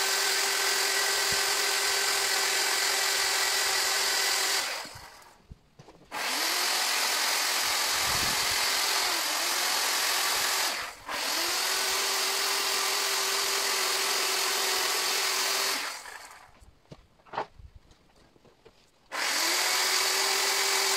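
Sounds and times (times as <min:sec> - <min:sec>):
chainsaw cutting wood: 0:00.0 - 0:16.6, 0:19.1 - 0:20.9.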